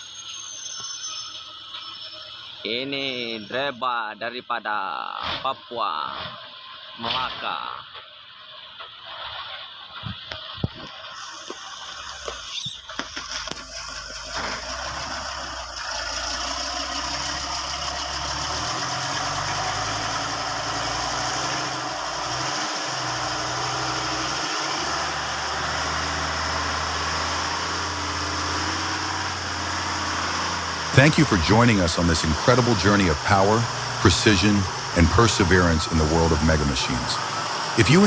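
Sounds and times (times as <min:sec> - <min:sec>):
heavy truck engine running: 0:05.9 - 0:38.0.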